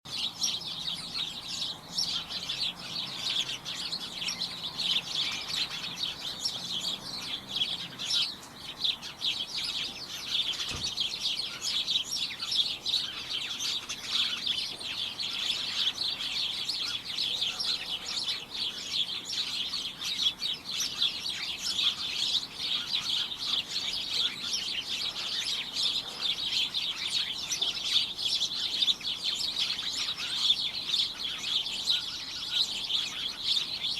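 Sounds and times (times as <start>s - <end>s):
flock of small birds chirping: 0.0s - 33.9s.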